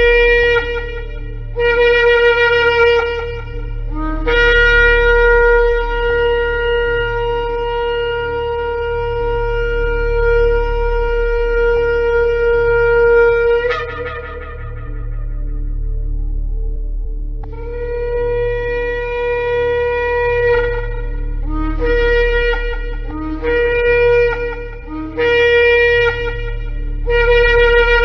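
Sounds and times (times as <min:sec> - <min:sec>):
shofar blast: 0:00.0 - 0:15.8, 0:17.5 - 0:28.0
steady low hum: 0:00.0 - 0:28.0.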